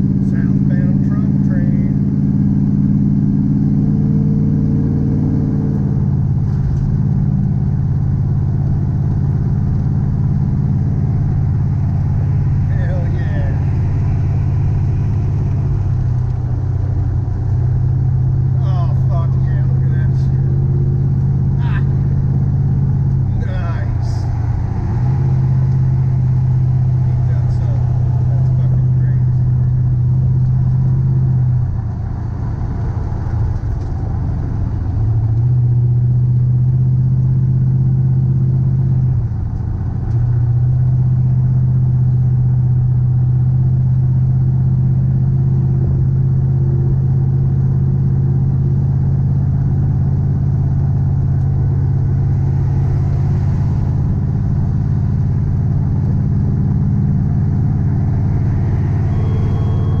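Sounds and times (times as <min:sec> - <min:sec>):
tyre and road noise: 0:00.0 - 1:00.0
vehicle engine drone: 0:00.0 - 1:00.0.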